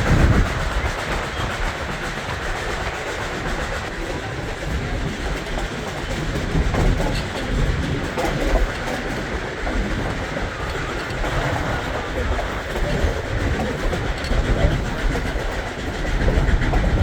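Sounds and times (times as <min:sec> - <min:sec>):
train rumbling on rails: 0:00.0 - 0:17.0
train wheels clattering over track: 0:00.0 - 0:17.0.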